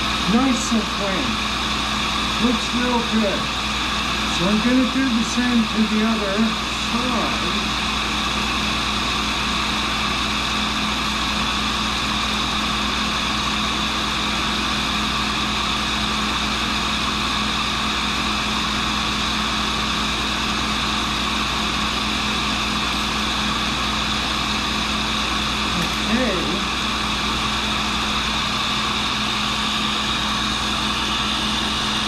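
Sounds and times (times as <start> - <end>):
grinder humming and whining: 0.0 - 32.0.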